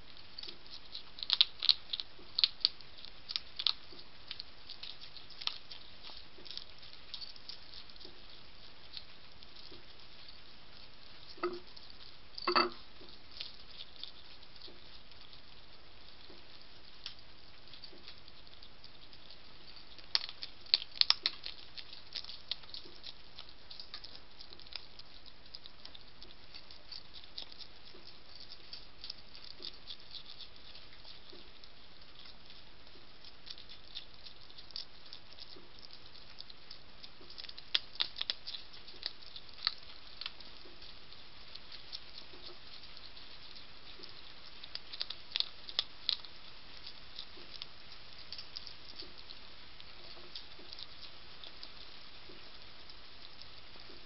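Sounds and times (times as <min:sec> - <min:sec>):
hedgehog crunching dry food: 0:00.0 - 0:54.0.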